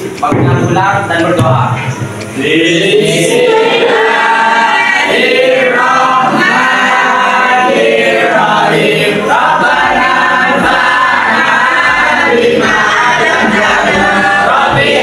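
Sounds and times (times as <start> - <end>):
students chanting in unison: 2.4 - 15.0.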